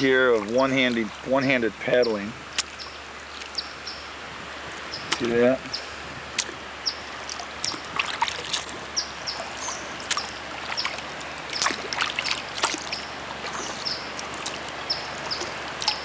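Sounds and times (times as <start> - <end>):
kayak paddle splashing: 0.0 - 16.0
water dripping: 0.0 - 16.0.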